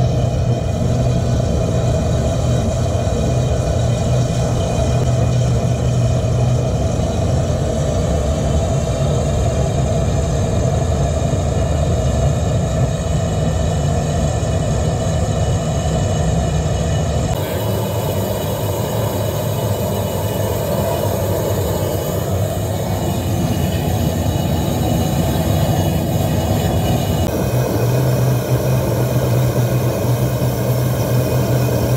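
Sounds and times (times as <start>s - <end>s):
gas burner rumbling: 0.0s - 31.9s.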